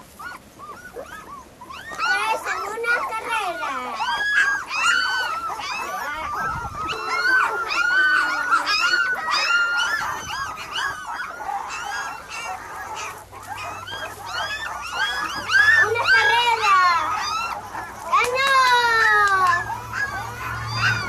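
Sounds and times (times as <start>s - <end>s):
puppies whining: 0.0s - 21.0s.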